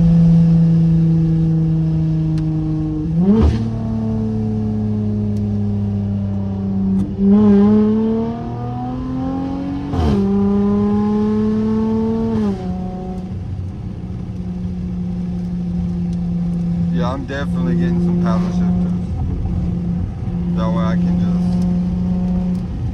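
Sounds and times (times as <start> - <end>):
car exhaust accelerating: 0.0 - 22.9.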